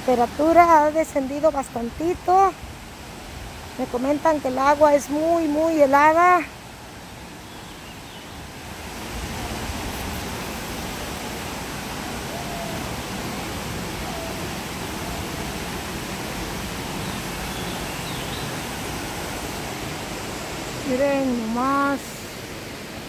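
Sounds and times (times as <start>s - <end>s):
waterfall and river rushing: 0.0s - 23.0s.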